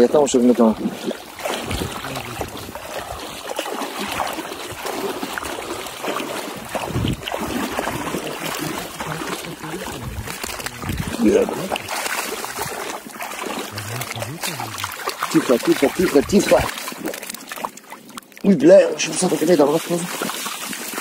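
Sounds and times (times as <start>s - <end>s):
fish splashing in water: 0.0s - 21.0s.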